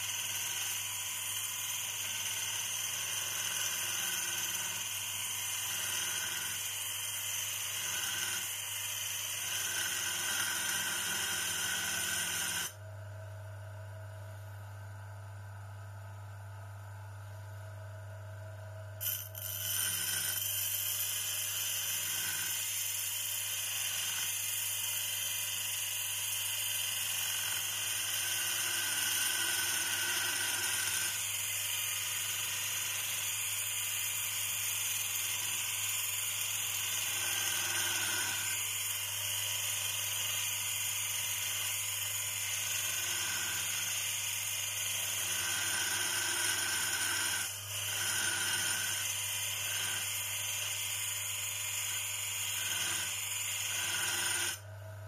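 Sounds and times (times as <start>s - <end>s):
electric workshop tool whining: 0.0s - 12.8s, 19.0s - 54.8s.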